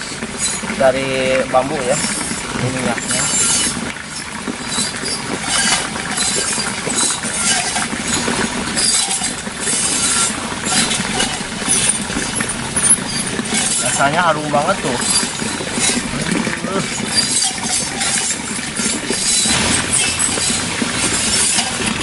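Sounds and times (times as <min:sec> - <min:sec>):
skewers sizzling over charcoal: 0:00.0 - 0:22.0.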